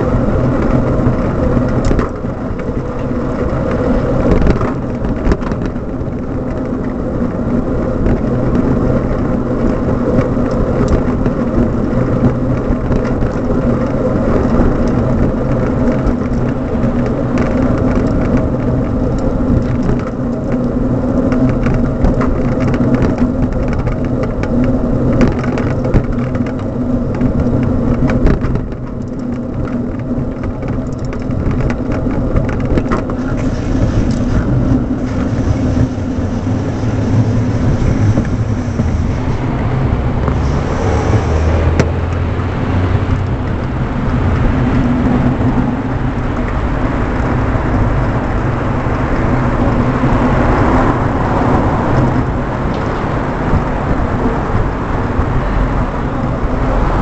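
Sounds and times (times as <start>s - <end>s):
road rumble: 0.0s - 57.0s
wind rumbling on microphone: 0.0s - 57.0s.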